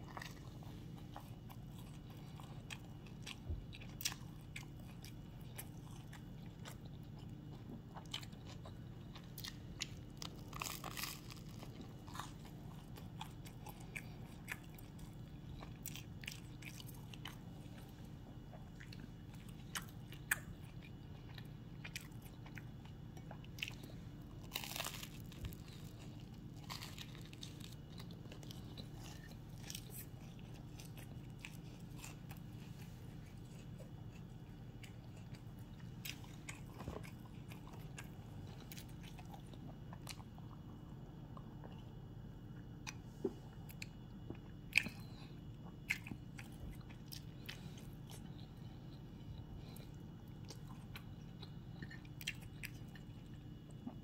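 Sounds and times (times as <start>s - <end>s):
crunchy bites and chewing: 0.0s - 54.0s
steady low hum: 0.0s - 54.0s.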